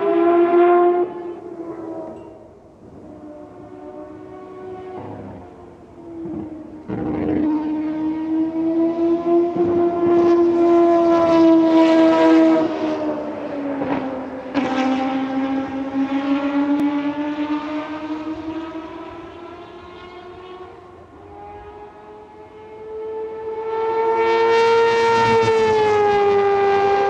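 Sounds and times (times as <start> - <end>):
rotary racing engine: 0.0 - 2.2, 2.8 - 27.0
higher engine note: 0.0 - 27.0.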